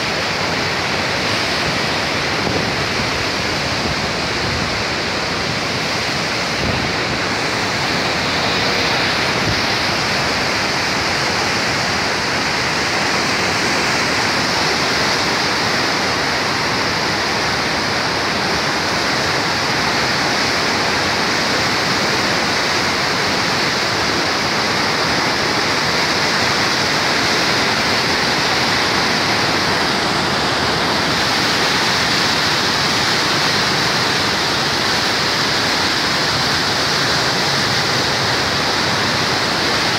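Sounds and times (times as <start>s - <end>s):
turbulent floodwater rushing: 0.0s - 39.9s.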